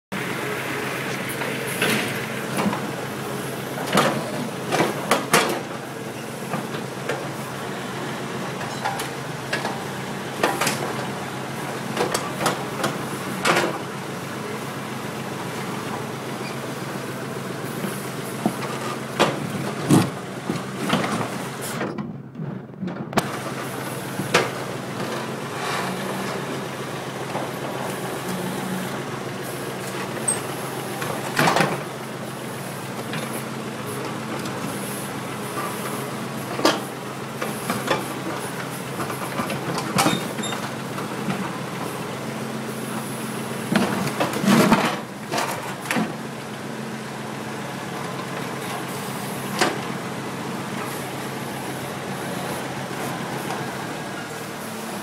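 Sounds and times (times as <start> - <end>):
diesel engine running: 0.1 - 55.0.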